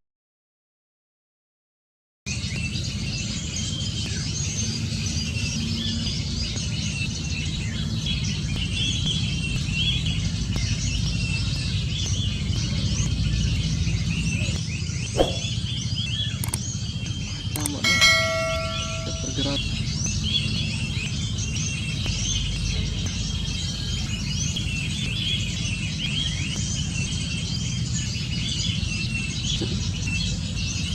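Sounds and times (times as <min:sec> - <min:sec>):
small birds chirping: 0:02.3 - 0:30.9
steady low rumble: 0:02.3 - 0:30.9.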